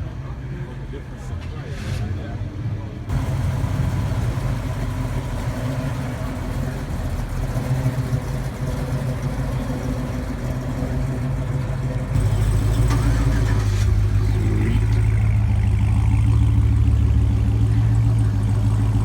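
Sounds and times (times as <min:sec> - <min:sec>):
car engine idling: 0:03.1 - 0:19.0.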